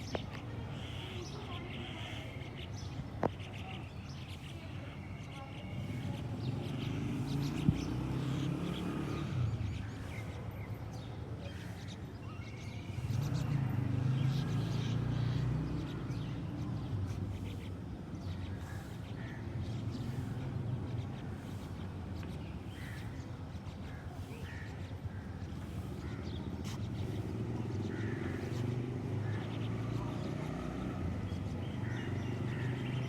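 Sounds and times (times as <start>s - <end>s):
faint birds calling: 0.0s - 33.0s.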